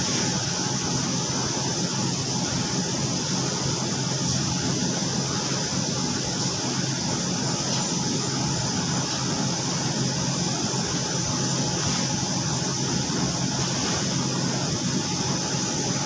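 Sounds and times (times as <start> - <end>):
constant high hiss: 0.0 - 16.0
laundry machines droning: 0.0 - 16.0.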